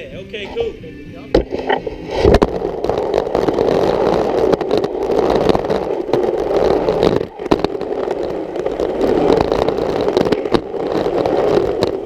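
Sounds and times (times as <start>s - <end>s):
skateboard wheels rolling on concrete: 0.0s - 12.0s
skateboard clicks and knocks: 1.3s - 12.0s.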